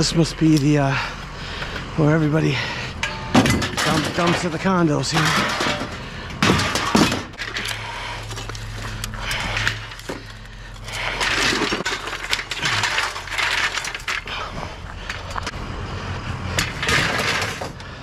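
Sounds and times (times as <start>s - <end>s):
scrap metal clanking and rattling: 0.0s - 15.6s, 16.5s - 18.0s
steady low hum: 0.0s - 18.0s.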